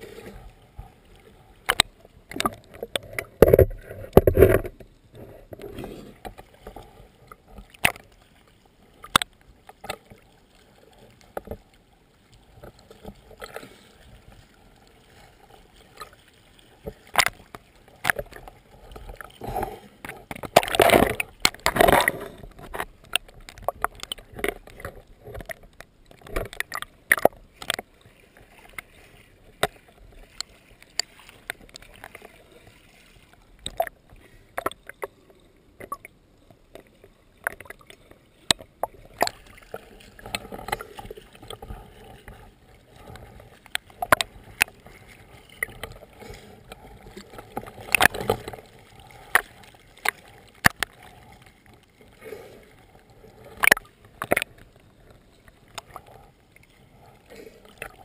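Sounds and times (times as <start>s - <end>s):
water sloshing and splashing: 0.0s - 58.0s.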